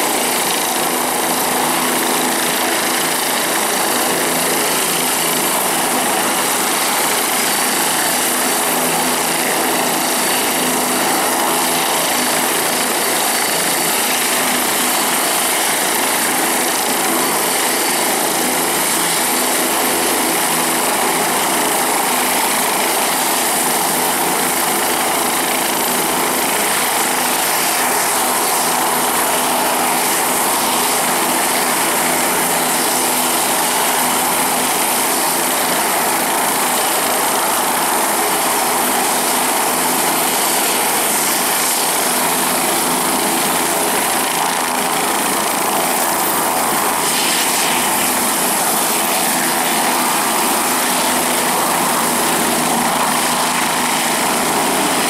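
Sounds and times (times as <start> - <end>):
helicopter rotors rushing: 0.0 - 55.0
helicopter turbine whine: 0.0 - 55.0.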